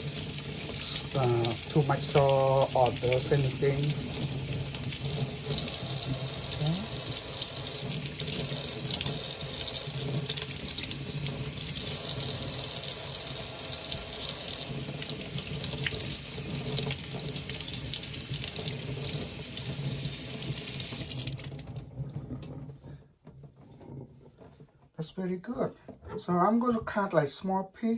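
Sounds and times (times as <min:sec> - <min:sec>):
tap running into sink: 0:00.0 - 0:22.6.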